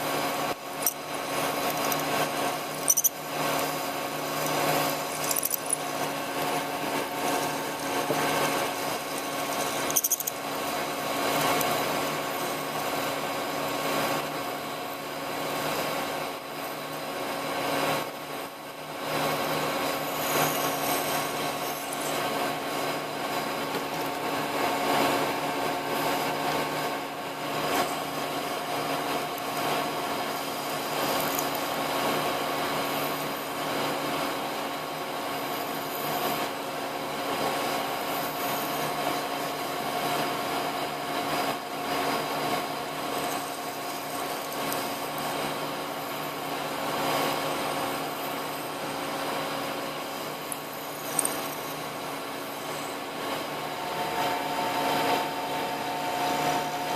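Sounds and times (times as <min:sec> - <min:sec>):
drill cutting metal: 0:00.0 - 0:18.0, 0:19.1 - 0:33.8, 0:41.8 - 0:56.9
metal lathe humming: 0:00.0 - 0:56.9.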